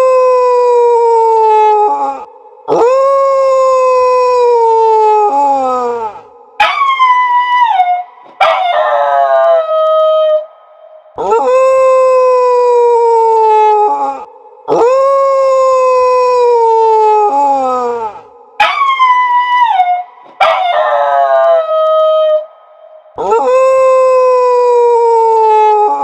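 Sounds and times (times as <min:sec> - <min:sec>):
dog howling: 0:00.0 - 0:10.6, 0:11.2 - 0:22.6, 0:23.2 - 0:26.0.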